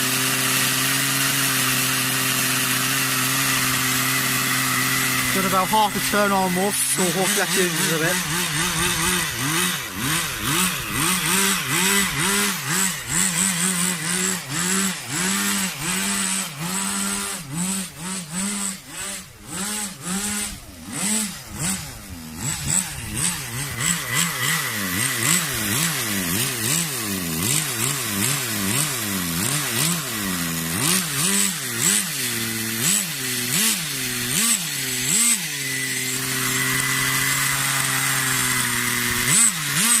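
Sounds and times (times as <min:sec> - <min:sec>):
model car engine revving: 0:00.0 - 0:40.0.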